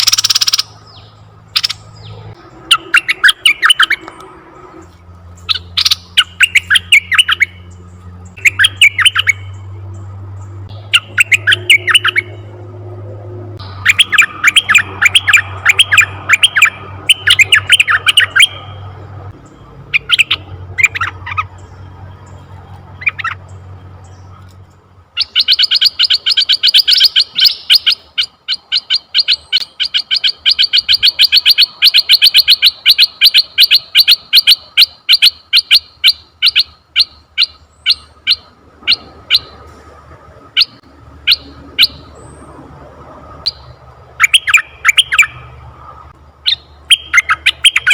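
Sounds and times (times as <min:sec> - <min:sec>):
bulbul calling: 0:00.0 - 0:12.6, 0:13.6 - 0:39.7, 0:40.4 - 0:42.5, 0:43.4 - 0:47.9.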